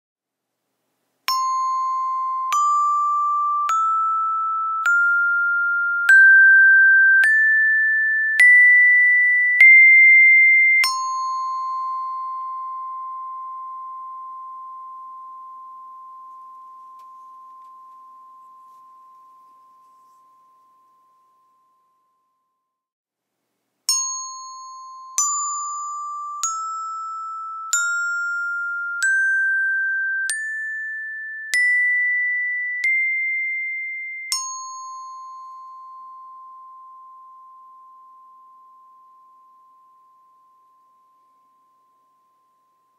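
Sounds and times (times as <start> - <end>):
glockenspiel scale: 1.3 - 22.6, 23.9 - 42.9.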